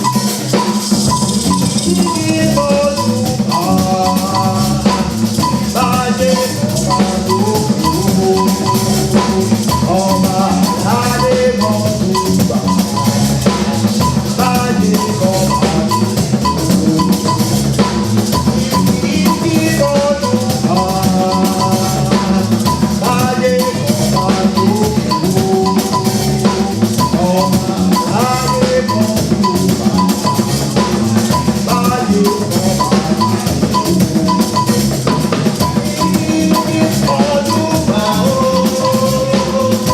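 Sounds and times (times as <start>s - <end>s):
instrumental music with drum beat: 0.0s - 39.9s.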